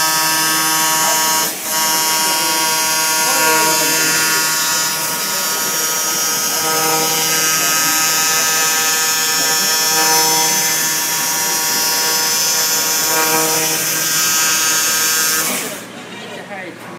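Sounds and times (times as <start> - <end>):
laser cutter hiss: 0.0 - 15.8
machine hum: 0.0 - 16.1.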